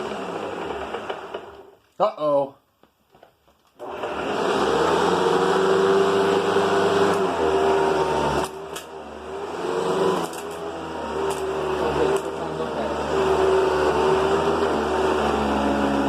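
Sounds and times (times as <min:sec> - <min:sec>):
vacuum cleaner motor running: 0:00.0 - 0:01.7, 0:03.8 - 0:16.0.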